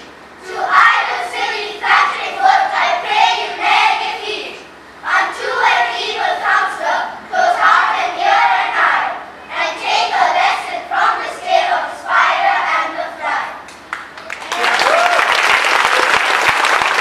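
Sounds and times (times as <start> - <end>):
children reciting in unison: 0.0 - 13.7.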